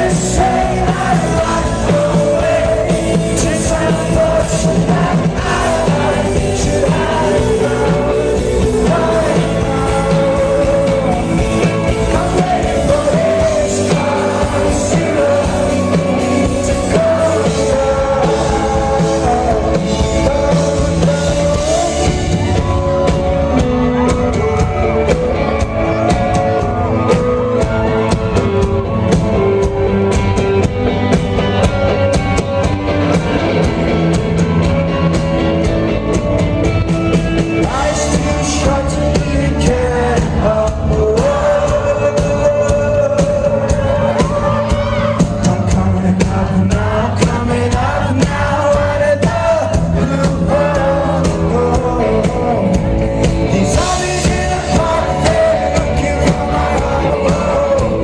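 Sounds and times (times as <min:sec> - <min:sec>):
man singing: 0:00.0 - 0:31.7, 0:35.8 - 0:58.0
live rock band playing: 0:00.0 - 0:58.0.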